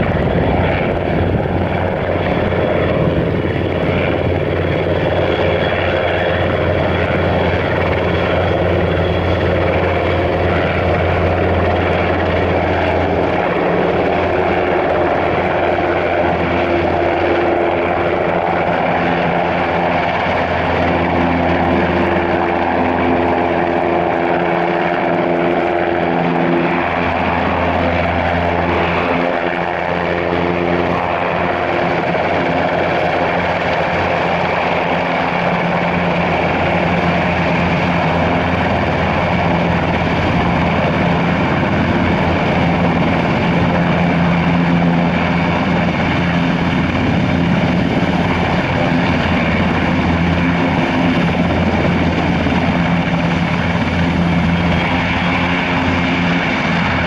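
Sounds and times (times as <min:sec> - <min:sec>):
helicopter rotor and turbines: 0:00.0 - 0:57.0.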